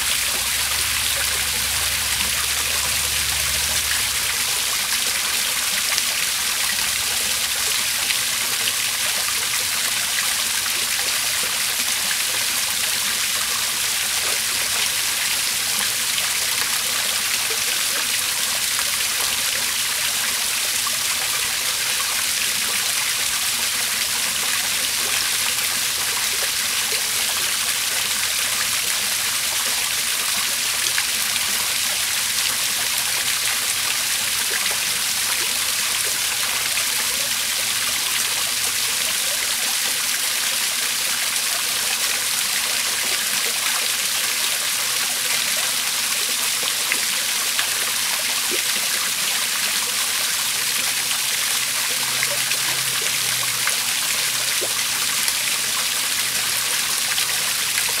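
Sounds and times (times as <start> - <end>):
waterfall splashing into pond: 0.0 - 58.0.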